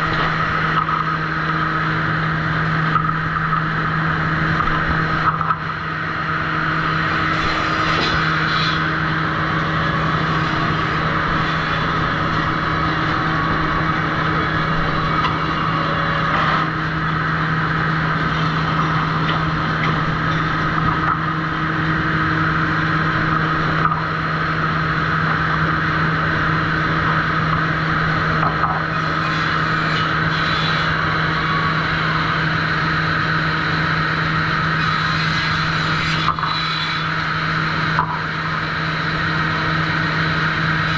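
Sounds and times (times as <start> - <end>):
saw machinery humming: 0.0 - 40.9.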